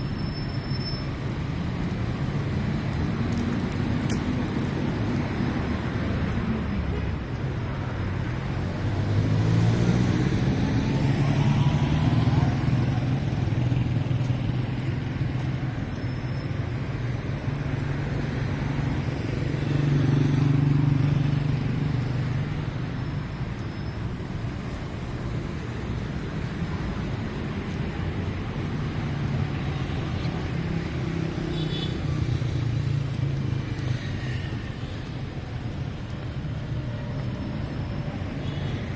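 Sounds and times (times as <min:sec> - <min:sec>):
vehicle engines humming: 0:00.0 - 0:38.9.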